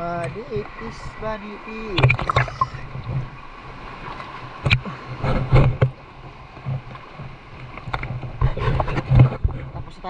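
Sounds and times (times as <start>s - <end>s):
boat engine low rumble: 0.0s - 10.0s
knocks and splashes: 0.0s - 10.0s.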